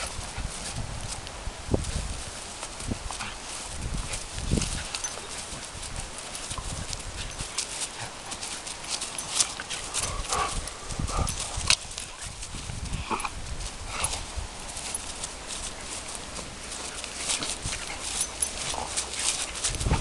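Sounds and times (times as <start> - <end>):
dogs scuffling on grass: 0.0 - 20.0.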